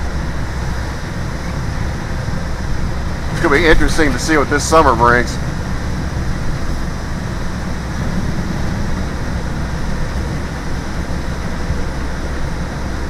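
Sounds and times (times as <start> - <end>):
diesel bus engine droning: 0.0 - 13.0
road noise: 0.0 - 13.0.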